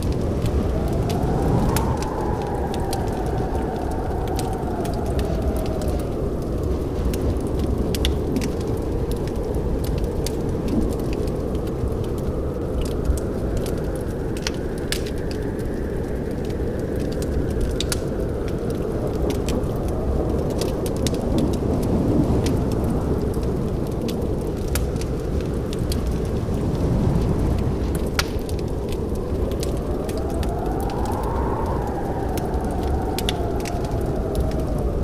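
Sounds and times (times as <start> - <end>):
fire pops and snaps: 0.0 - 35.0
low rumble of flames: 0.0 - 35.0
wood fire crackling: 0.0 - 35.0.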